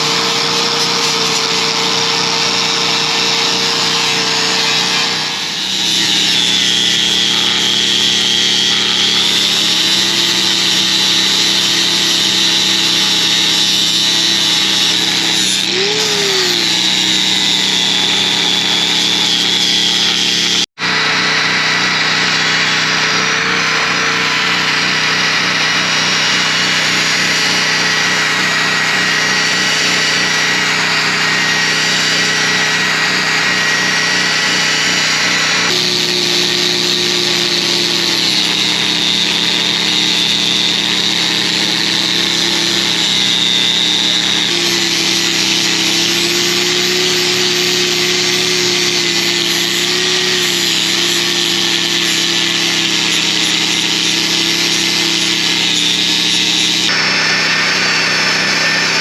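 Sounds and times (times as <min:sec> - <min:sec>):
power grinder on metal: 0:00.0 - 0:59.0.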